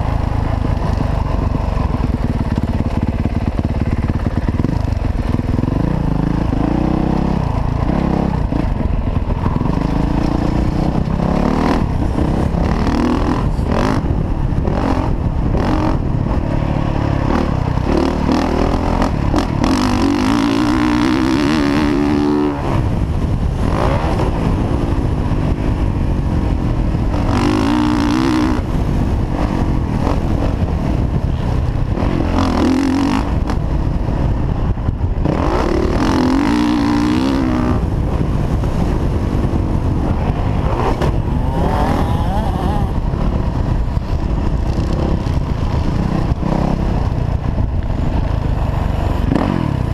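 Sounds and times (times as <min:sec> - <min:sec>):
dirt bike engine revving: 0:00.0 - 0:33.8, 0:35.2 - 0:43.4, 0:49.0 - 0:49.9
wind rumbling on microphone: 0:00.0 - 0:49.9.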